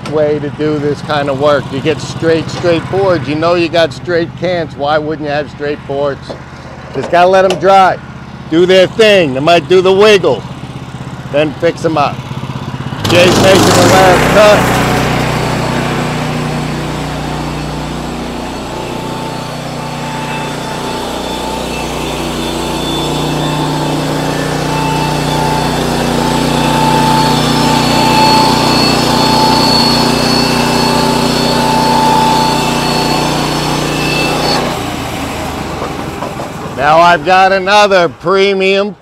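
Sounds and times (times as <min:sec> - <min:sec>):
band sawmill cutting wood: 0:00.0 - 0:38.8.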